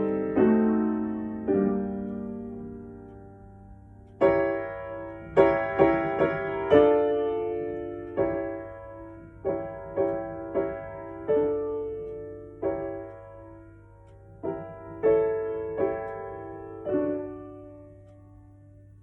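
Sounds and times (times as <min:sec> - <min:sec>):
slow piano notes and chords: 0:00.0 - 0:19.0.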